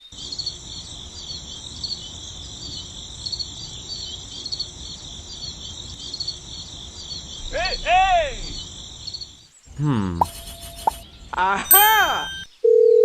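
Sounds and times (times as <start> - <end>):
insects chirping: 0.0 - 13.0
continuous high buzz: 0.1 - 12.5.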